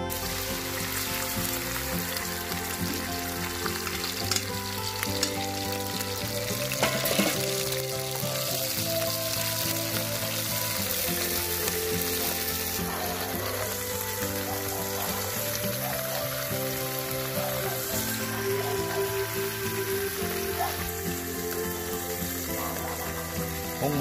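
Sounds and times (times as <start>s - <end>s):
larvae sizzling in hot oil: 0.0s - 24.0s.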